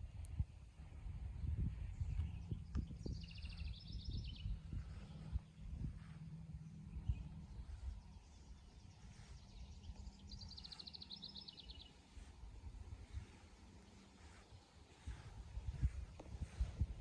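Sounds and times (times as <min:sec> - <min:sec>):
low rumbling background: 0:00.0 - 0:17.0
songbird trill: 0:01.4 - 0:17.0.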